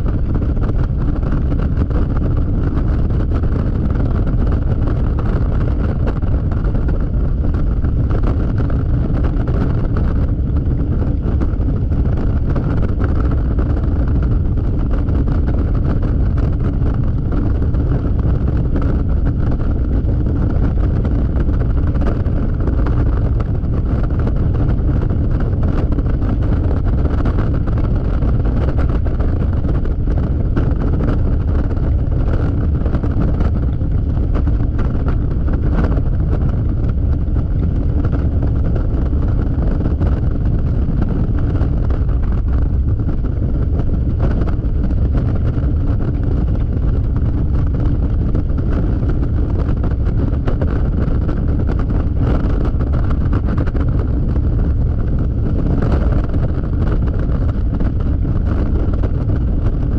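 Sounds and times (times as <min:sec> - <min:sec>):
road noise: 0:00.0 - 0:59.8
wind buffeting microphone: 0:00.0 - 0:59.9.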